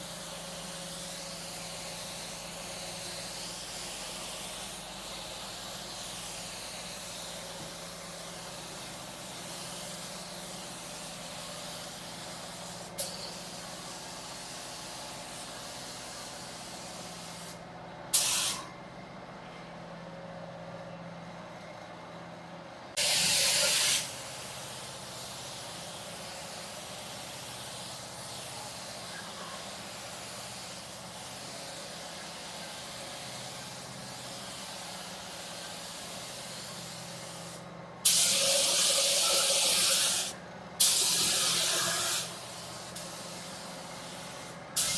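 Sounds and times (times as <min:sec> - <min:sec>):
paint spray gun hissing blasts: 0:00.0 - 0:17.6, 0:18.2 - 0:18.7, 0:23.0 - 0:44.9.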